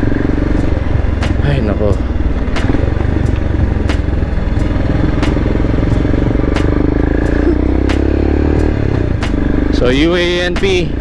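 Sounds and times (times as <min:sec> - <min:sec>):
motorcycle engine running: 0:00.0 - 0:11.0
sharp clicks: 0:00.4 - 0:09.6.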